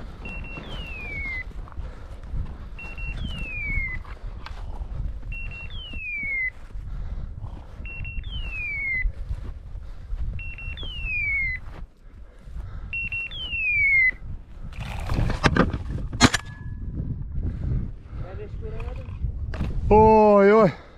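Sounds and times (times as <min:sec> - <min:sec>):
wind rumble on microphone: 0:00.0 - 0:20.5.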